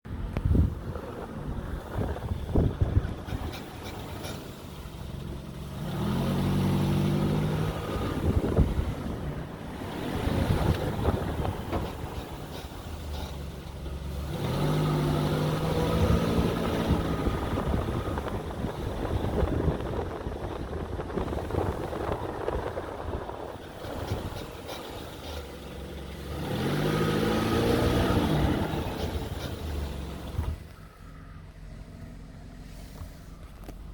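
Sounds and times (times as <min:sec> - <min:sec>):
vehicle running noise: 0:00.0 - 0:33.9
brakes creaking: 0:00.1 - 0:33.9.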